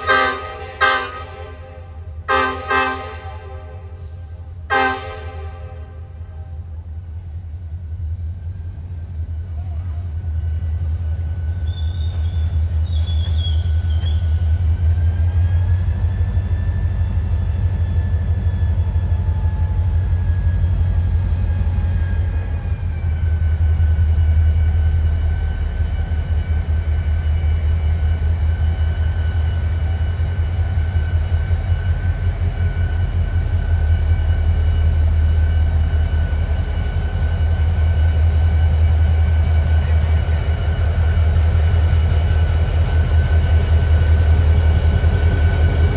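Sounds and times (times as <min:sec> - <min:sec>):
diesel locomotive engines rumbling: 0:00.0 - 0:45.9.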